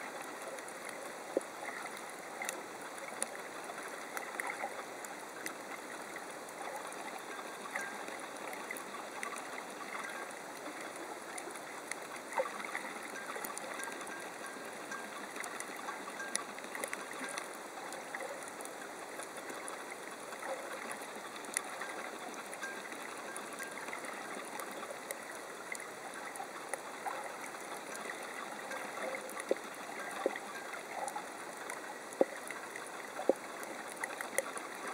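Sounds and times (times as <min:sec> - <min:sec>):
faint clicks and crackles: 0:00.0 - 0:34.9.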